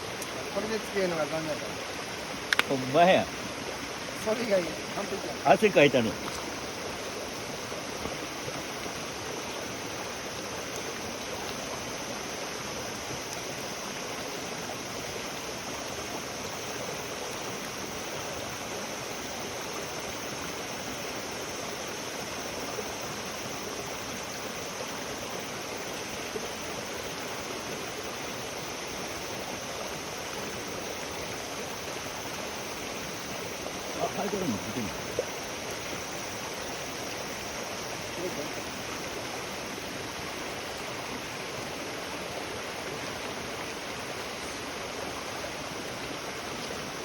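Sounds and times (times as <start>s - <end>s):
flowing water rushing: 0.0s - 47.0s.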